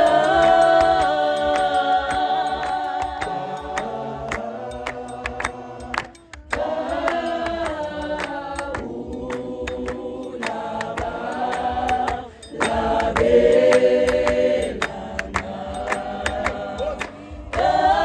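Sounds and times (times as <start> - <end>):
choir singing in harmony: 0.0 - 18.0
rhythmic hand claps: 0.0 - 18.0.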